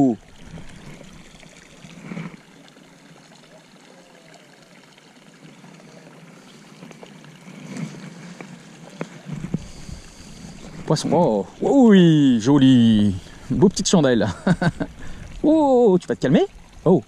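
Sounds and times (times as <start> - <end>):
water trickling into pond: 0.0 - 17.0.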